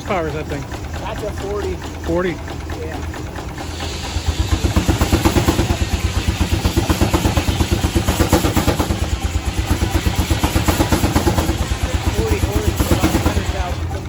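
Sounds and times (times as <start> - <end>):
steam engine exhaust chuffing: 0.0 - 14.0.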